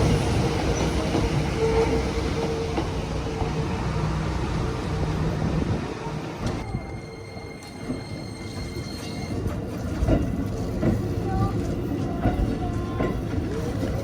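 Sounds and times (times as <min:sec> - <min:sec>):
electric train rumbling on track: 0:00.0 - 0:14.0.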